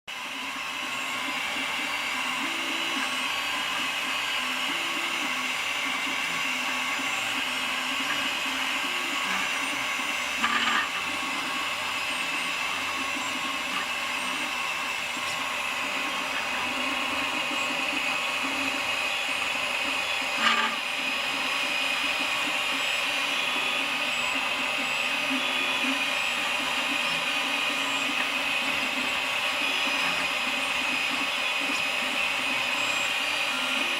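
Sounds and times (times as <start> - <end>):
printer machine whir: 0.1 - 33.9.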